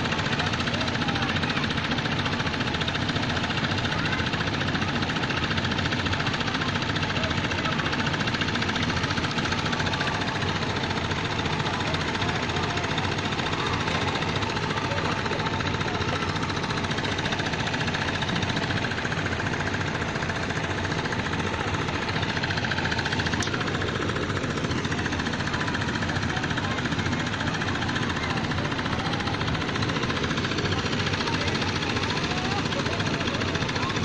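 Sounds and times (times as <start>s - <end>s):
small engine knocking steadily: 0.0s - 34.0s.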